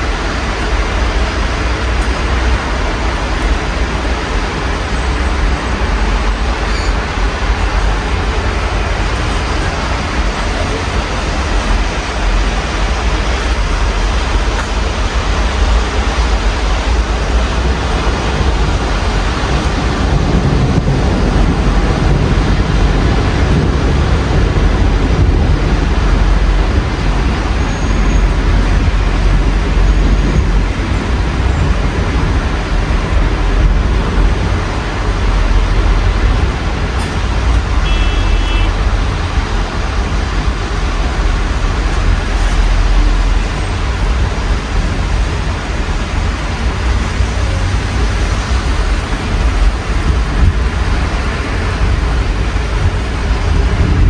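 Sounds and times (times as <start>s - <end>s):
passing vehicles rumble: 0.0s - 54.0s
rain hiss: 0.0s - 54.0s.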